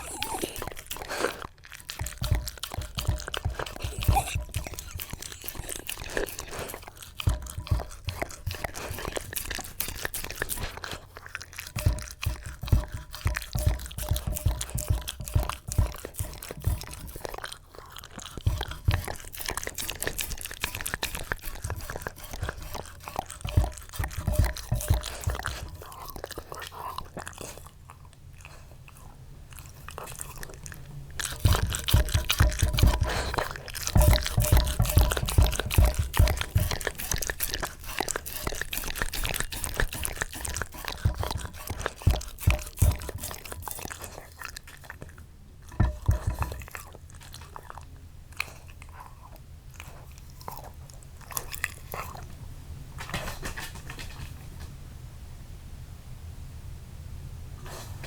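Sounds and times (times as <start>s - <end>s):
dog crunching and chewing: 0.0s - 54.8s.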